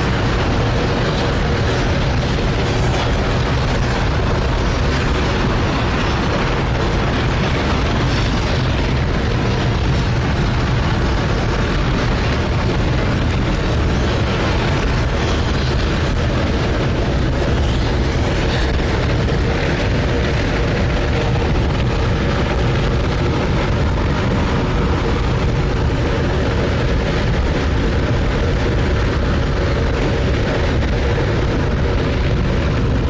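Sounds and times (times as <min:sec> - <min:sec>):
rocket engine roaring: 0:00.0 - 0:33.0.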